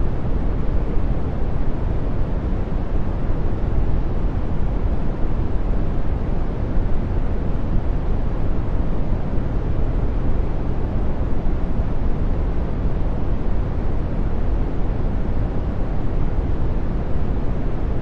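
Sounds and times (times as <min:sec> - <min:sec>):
brown noise hiss: 0:00.0 - 0:18.0.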